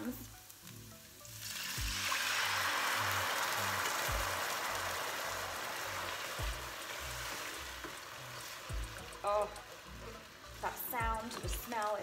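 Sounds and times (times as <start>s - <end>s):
background music with steady beat: 0.0s - 12.0s
liquid hissing in hot pan: 1.2s - 12.0s.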